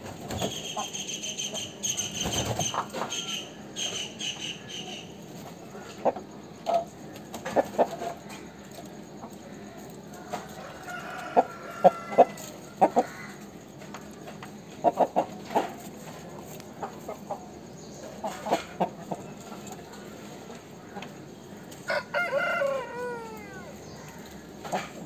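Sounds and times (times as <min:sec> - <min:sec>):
chicken clucking: 0:00.1 - 0:25.0.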